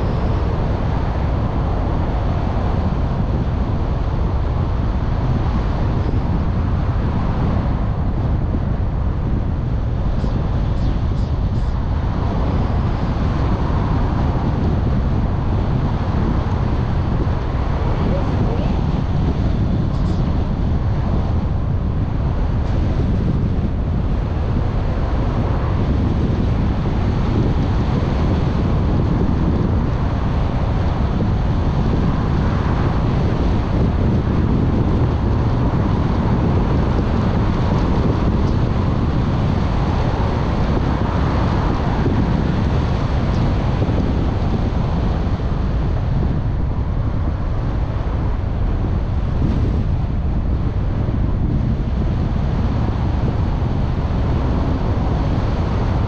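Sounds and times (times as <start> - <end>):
car road rumble: 0.0 - 56.0
wind buffeting microphone: 0.0 - 56.0.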